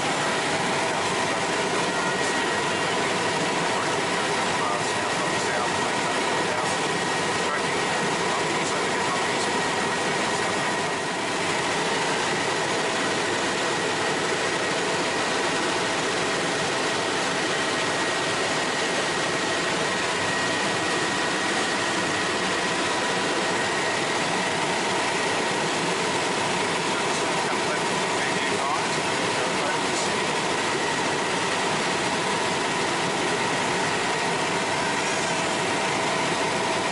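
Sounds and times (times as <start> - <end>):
helicopter turbine and rotor noise: 0.0 - 36.9
high whine: 0.0 - 36.9.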